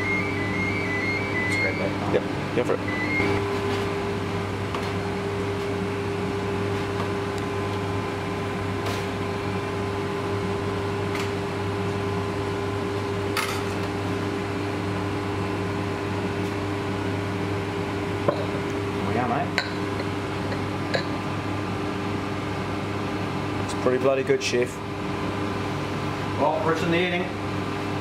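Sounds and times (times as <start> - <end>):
kitchen equipment hum: 0.0 - 28.0.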